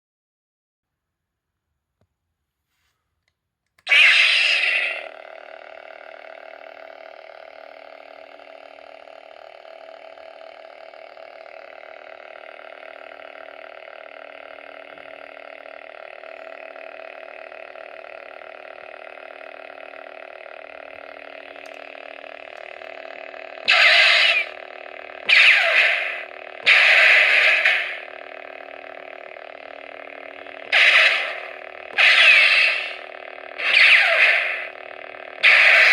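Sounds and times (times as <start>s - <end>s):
toy lightsaber electronic hum: 3.8s - 35.9s.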